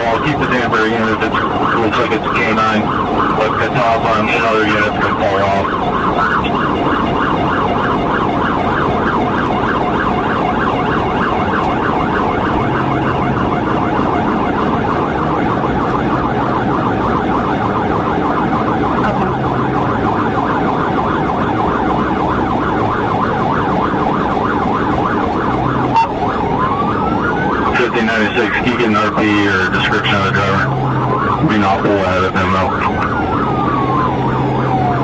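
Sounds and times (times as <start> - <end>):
car engine and road noise: 0.0 - 35.0
police siren yelping: 0.0 - 35.0.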